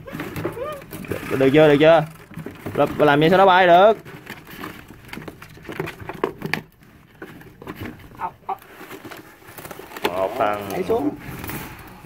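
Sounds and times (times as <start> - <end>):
hands rustling in cardboard box: 0.0 - 12.0.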